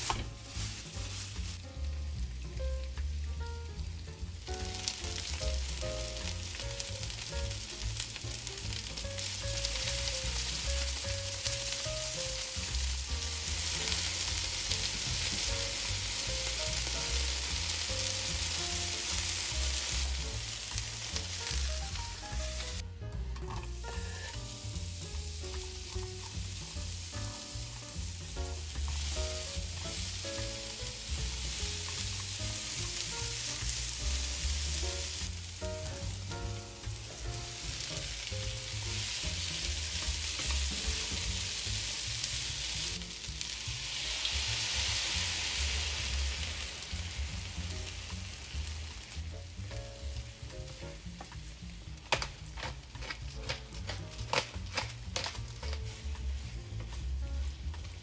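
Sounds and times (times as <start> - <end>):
chicken sizzling in oil: 0.0 - 58.0
chopsticks turning food in pan: 0.0 - 58.0
vegetables sizzling stir-fried: 0.0 - 58.0.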